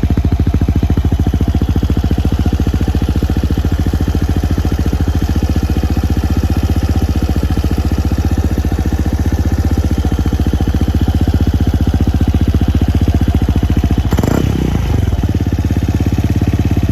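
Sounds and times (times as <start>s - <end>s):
scooter engine idling: 0.0s - 16.9s.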